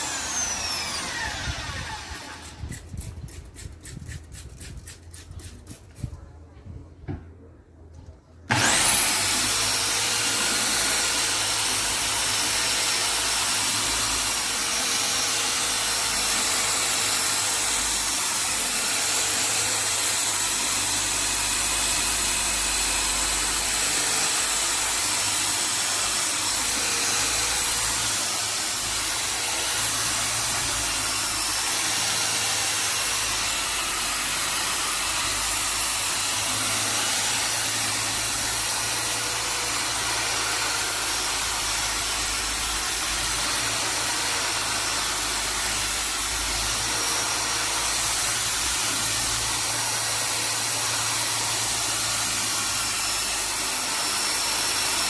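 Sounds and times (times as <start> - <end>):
electric motor whining: 0.0 - 2.8, 8.5 - 20.4, 22.7 - 54.4.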